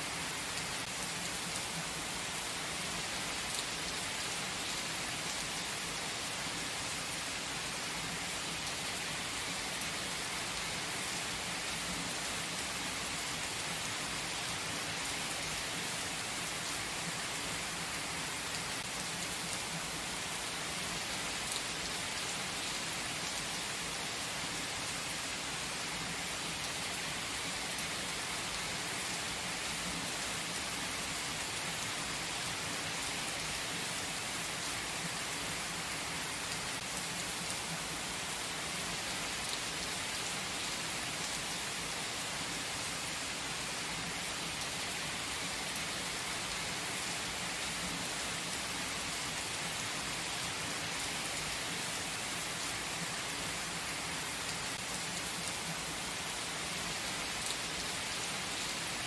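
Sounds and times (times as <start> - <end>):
rain falling on trees: 0.0 - 59.0.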